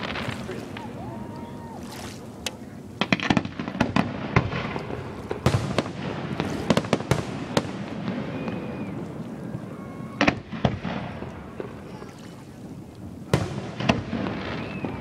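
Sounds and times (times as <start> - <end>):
fireworks bangs and crackles: 0.0 - 1.8, 2.4 - 15.0.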